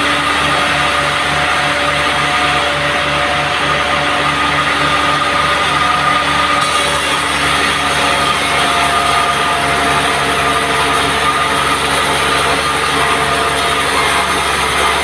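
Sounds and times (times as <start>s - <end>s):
band saw drone and hiss: 0.0s - 15.0s.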